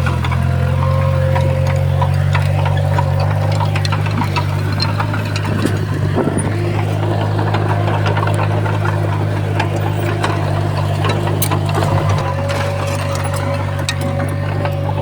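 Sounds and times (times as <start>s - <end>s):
bulldozer diesel engine running: 0.0s - 15.0s
clicks and clanks: 0.0s - 15.0s.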